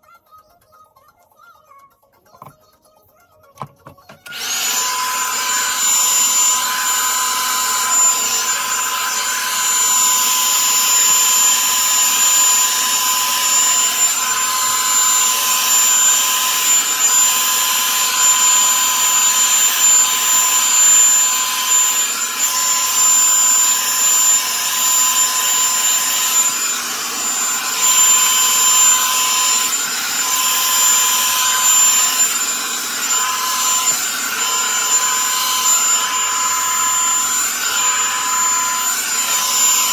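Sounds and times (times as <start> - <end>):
hair dryer brush blowing: 3.6 - 39.9.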